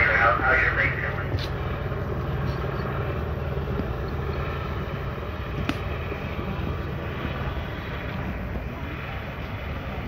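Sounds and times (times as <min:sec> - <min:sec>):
low mechanical rumble: 0:00.0 - 0:10.0.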